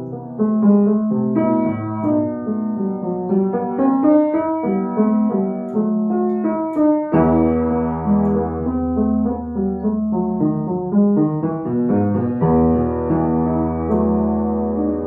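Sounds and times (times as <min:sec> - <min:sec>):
classical piano piece: 0:00.0 - 0:15.0.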